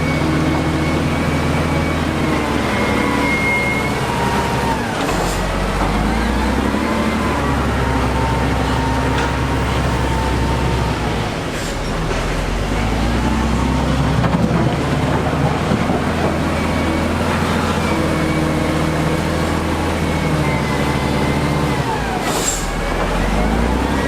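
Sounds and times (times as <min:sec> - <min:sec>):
diesel machinery engine running: 0:00.0 - 0:24.0.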